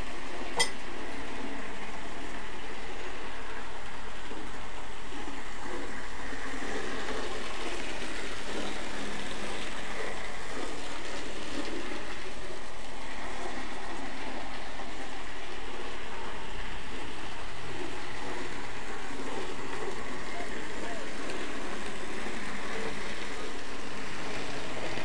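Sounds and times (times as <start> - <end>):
model train whirring rumble: 0.0 - 25.0.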